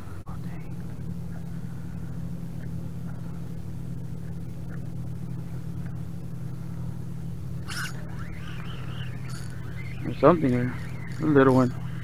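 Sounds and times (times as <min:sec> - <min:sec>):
motor droning: 0:00.0 - 0:12.0.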